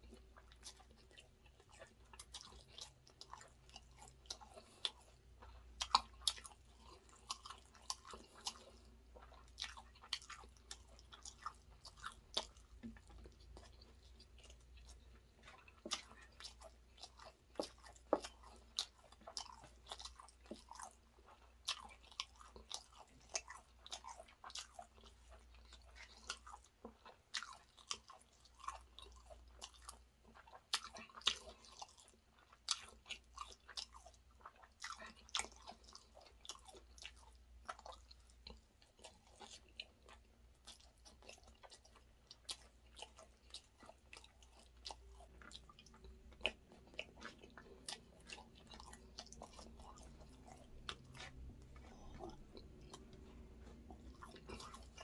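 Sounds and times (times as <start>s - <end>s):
person chewing with wet smacks: 0.0s - 55.0s.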